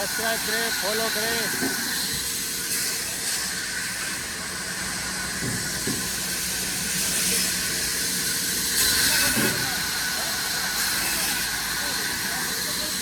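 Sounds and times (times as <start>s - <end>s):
steady hissing: 0.0s - 13.0s.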